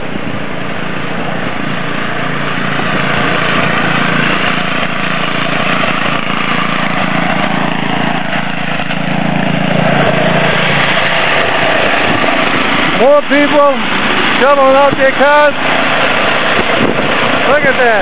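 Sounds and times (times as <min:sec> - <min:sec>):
snowblower engine running: 0:00.0 - 0:18.0.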